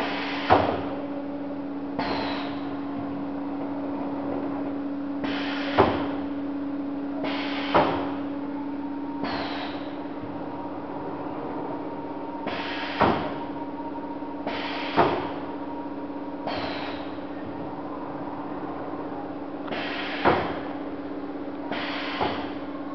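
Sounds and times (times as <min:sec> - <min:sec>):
machine hum: 0:00.0 - 0:22.9.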